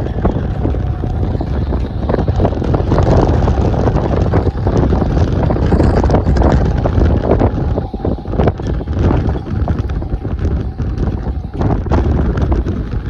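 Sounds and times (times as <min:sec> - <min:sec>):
gusting wind buffeting microphone: 0:00.0 - 0:13.0.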